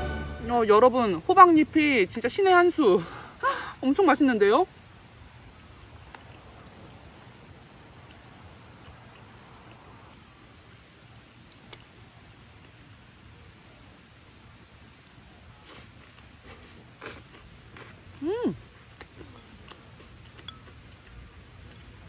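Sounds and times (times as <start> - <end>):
insect chirping faintly: 0.0 - 22.0
soft outdoor hush: 0.0 - 22.0.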